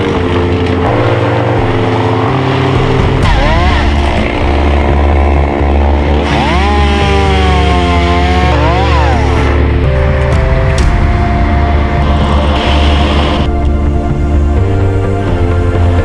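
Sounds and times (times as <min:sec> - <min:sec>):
synthesizer music with heavy bass: 0:00.0 - 0:16.0.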